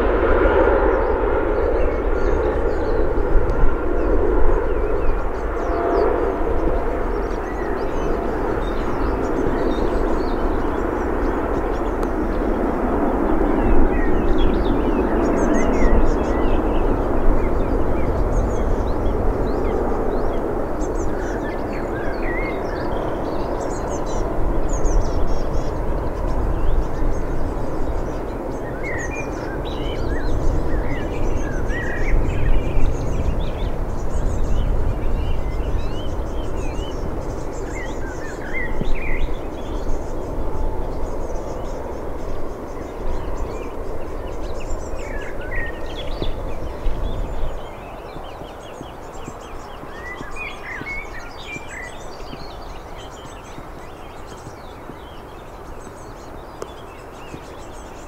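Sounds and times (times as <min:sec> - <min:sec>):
birds chirping: 0:00.0 - 0:58.0
jet engines rumbling: 0:00.0 - 0:58.0.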